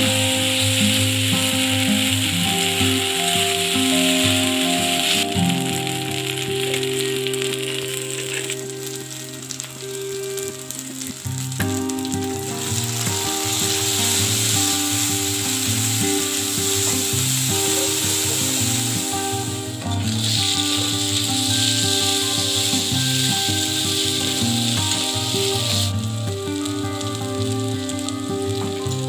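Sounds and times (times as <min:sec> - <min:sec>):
background music: 0:00.0 - 0:29.0
onions sizzling in hot oil: 0:00.0 - 0:29.0.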